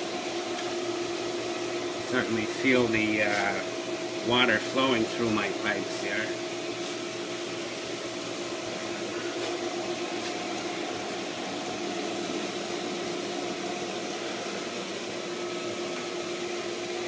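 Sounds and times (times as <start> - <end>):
pool pump motor humming: 0.0 - 17.0.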